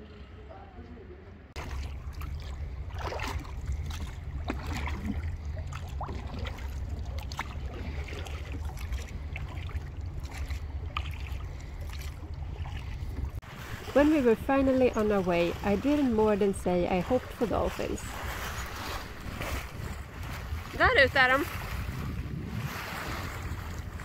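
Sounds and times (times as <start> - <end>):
low rumble: 0.0 - 24.0
oars splashing in water: 1.6 - 24.0.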